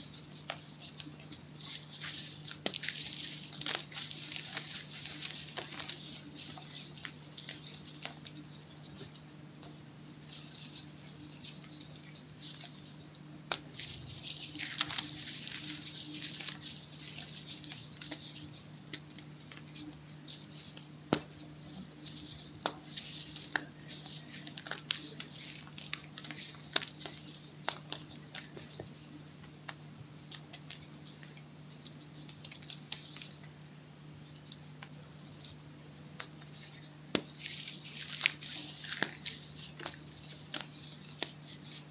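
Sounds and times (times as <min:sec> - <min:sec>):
chalk snapping: 0:00.0 - 0:33.5, 0:34.2 - 0:41.9
chalk crunching and crackling: 0:00.0 - 0:41.9.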